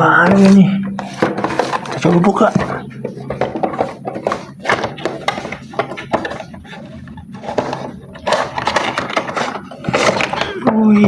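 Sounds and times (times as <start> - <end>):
toy box being handled: 0.0 - 11.0.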